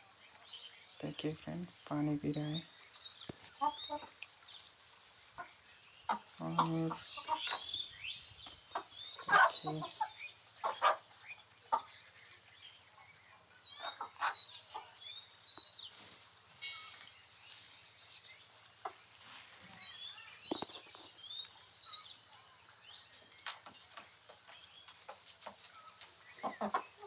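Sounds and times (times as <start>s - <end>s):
chickens chirping: 0.0s - 27.0s.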